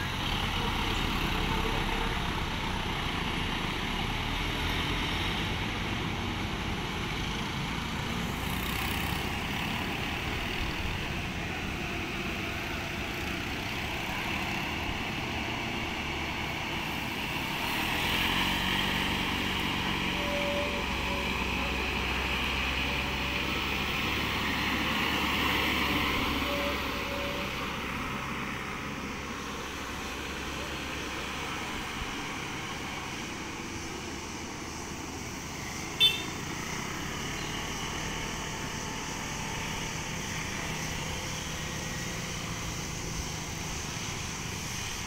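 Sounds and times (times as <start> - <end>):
truck engine low hum: 0.0 - 45.0
trucks passing: 0.0 - 45.0
motorcycles passing: 4.6 - 45.0.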